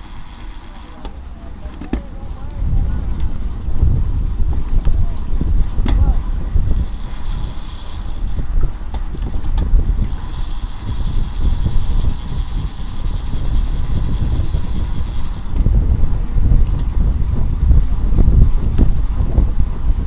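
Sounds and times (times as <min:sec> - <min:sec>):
wind rushing over microphone: 0:02.0 - 0:20.0.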